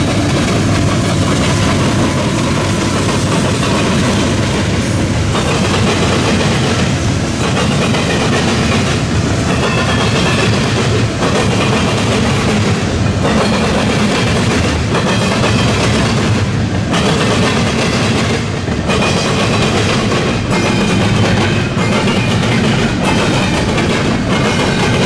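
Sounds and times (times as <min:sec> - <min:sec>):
diesel locomotive: 0:00.0 - 0:25.0
freight train wheels rumbling on rail: 0:00.0 - 0:25.0.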